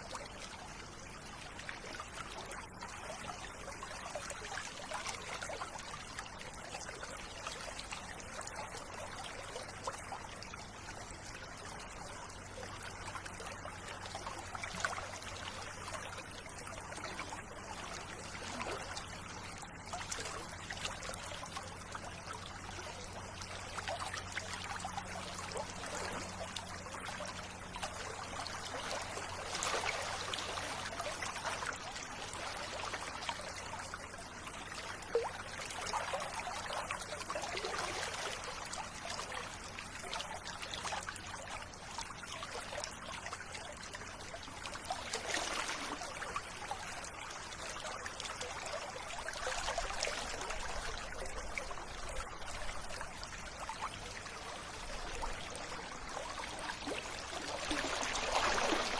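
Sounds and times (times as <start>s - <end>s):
river water running and trickling: 0.0s - 58.9s.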